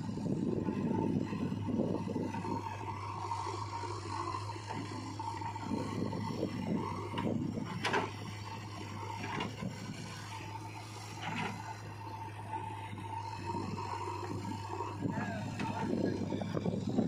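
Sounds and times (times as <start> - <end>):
diesel engines running: 0.0 - 17.0
backhoe scraping soil: 0.2 - 17.0.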